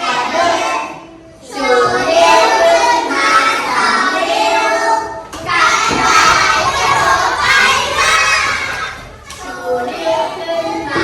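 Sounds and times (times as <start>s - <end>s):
young children singing: 0.0s - 11.0s.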